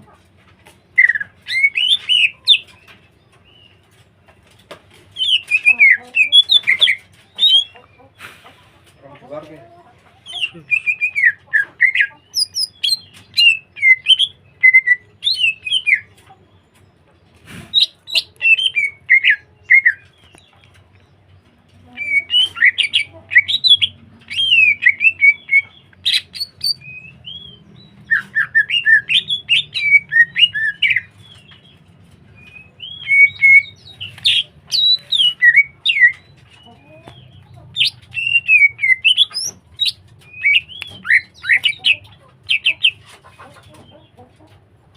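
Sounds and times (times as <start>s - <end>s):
bird singing warbling phrases: 0.8s - 3.8s, 5.1s - 8.1s, 9.0s - 16.6s, 17.7s - 44.5s.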